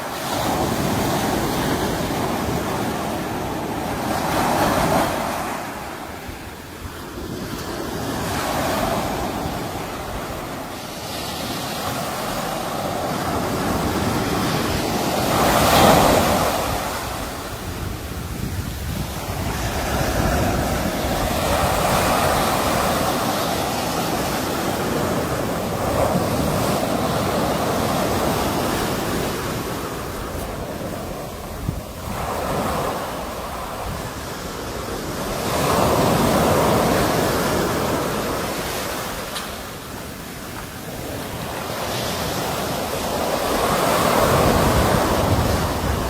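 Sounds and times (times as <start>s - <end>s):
sea waves breaking on shore: 0.0s - 46.0s
wind noise on microphone: 0.0s - 46.0s.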